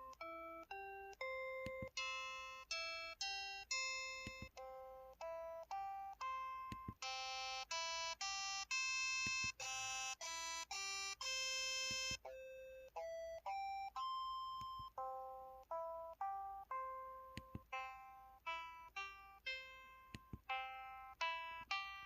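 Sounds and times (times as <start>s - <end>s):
mobile phone keypad tones: 0.0s - 22.0s.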